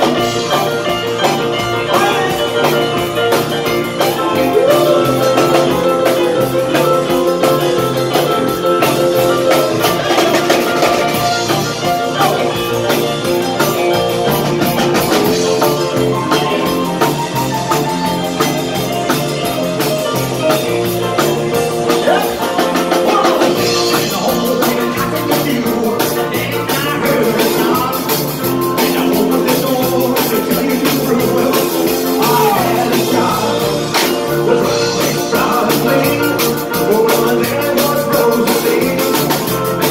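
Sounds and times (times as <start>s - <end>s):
rock and roll band playing: 0.0s - 39.9s.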